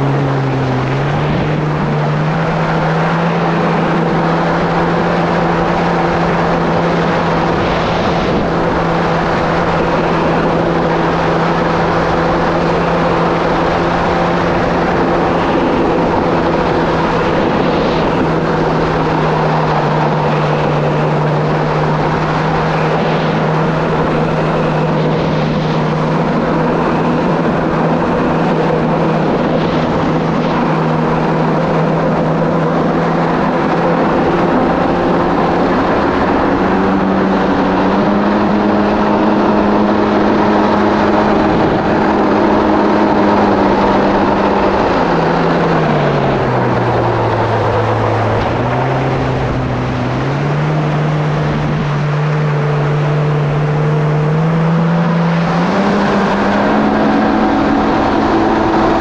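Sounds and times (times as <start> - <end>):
jet ski engine running: 0.0 - 59.0
rushing noise: 0.0 - 59.0.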